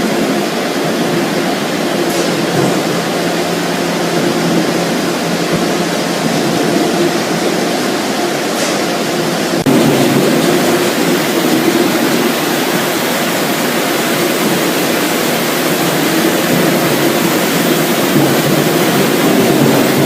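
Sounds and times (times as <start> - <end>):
production line machinery and water rushing: 0.0 - 20.0.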